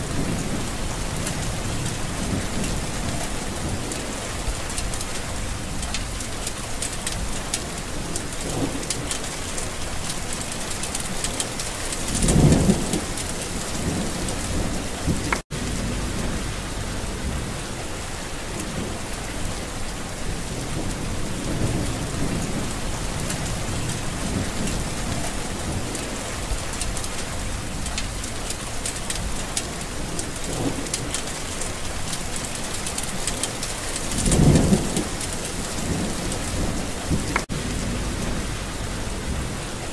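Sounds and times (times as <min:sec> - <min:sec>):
low thunder rumble: 0:00.0 - 0:32.1, 0:33.1 - 0:39.9
heavy rain: 0:00.0 - 0:39.9.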